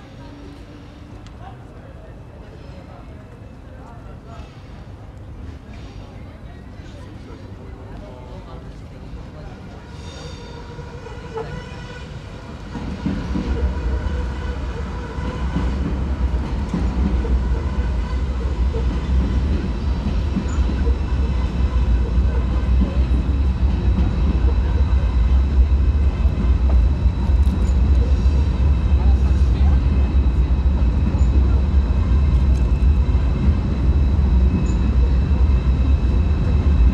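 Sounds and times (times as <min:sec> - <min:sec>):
steady train whine: 0:00.0 - 0:36.9
train passing rumble: 0:00.0 - 0:36.9.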